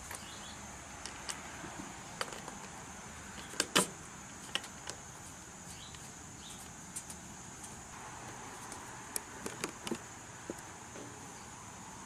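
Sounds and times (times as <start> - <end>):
high-pitched outdoor hiss: 0.0 - 12.0.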